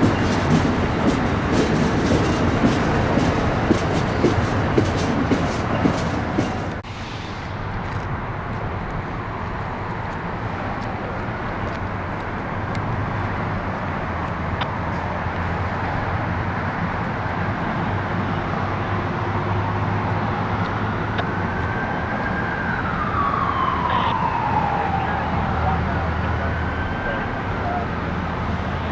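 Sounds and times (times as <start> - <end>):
emergency siren wailing: 0.0 - 16.5, 17.5 - 28.9
low vehicle rumble: 0.0 - 28.9.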